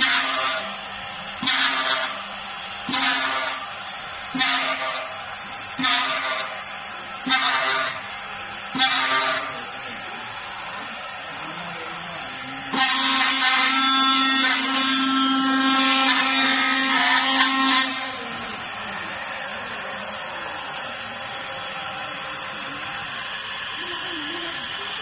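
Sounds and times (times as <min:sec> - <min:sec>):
machine hum: 0:00.0 - 0:25.0
milling spindle whine: 0:00.0 - 0:25.0.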